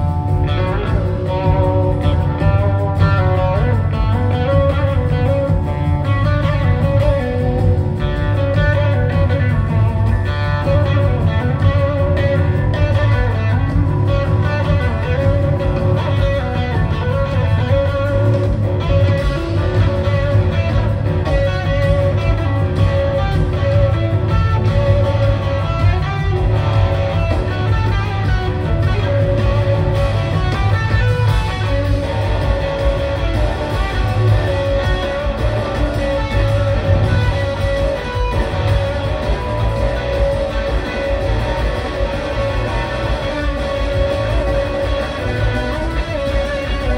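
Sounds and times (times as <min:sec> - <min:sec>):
electric guitar lead: 0:00.0 - 0:46.9
rock band playing: 0:00.0 - 0:46.9.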